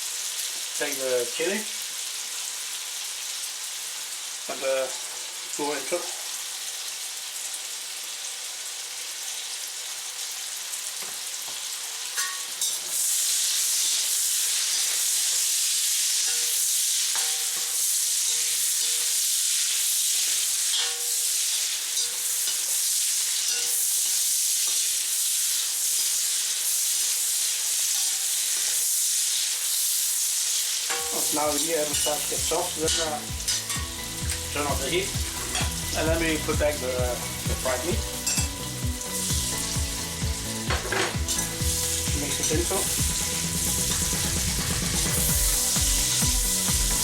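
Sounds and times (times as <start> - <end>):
food sizzling in frying pan: 0.0 - 47.0.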